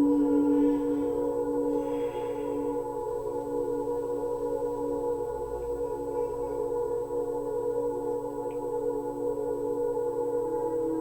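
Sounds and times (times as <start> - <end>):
ambient drone music: 0.0 - 11.0.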